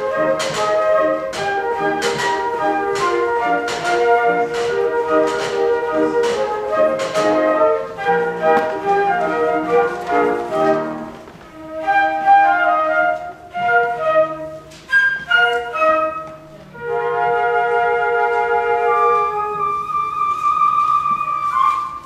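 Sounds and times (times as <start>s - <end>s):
flute quartet playing: 0.0s - 22.0s.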